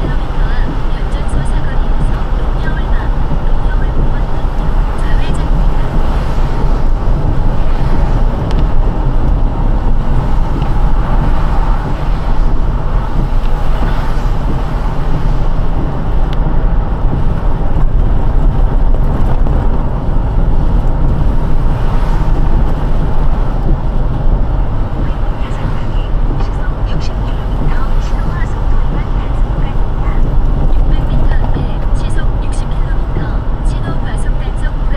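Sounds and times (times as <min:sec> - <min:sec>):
car driving on wet road: 0:00.0 - 0:34.9.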